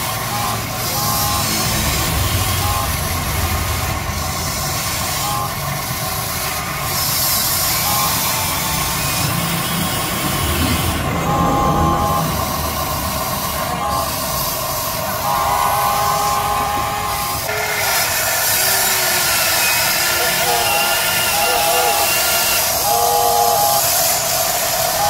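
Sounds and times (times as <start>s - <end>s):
toy excavator motors whining: 0.0s - 25.0s.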